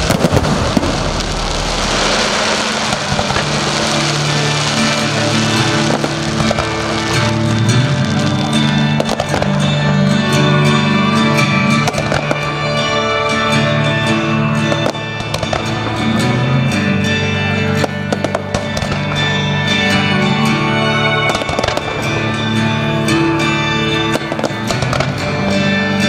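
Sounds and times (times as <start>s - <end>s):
fireworks cracking: 0.0s - 13.7s, 14.6s - 16.9s, 17.7s - 26.0s
music with long held tones: 0.0s - 26.0s.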